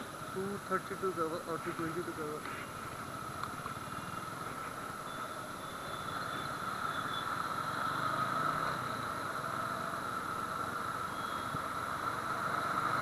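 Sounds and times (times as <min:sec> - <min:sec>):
motorcycle engine running: 0:00.0 - 0:13.0
traffic noise: 0:00.0 - 0:13.0.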